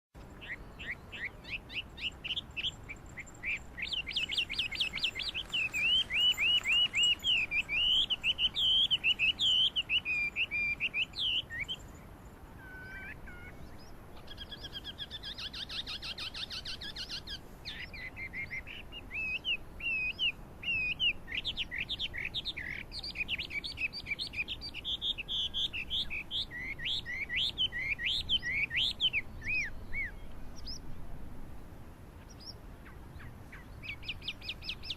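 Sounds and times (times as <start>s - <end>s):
bird singing whistled notes: 0.4s - 30.9s.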